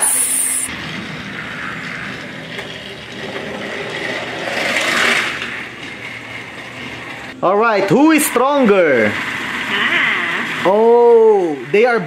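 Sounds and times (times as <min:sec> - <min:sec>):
toy train motor whirring: 0:00.0 - 0:07.4, 0:08.0 - 0:12.0
toy train wheels rattling: 0:00.0 - 0:07.4, 0:08.2 - 0:12.0.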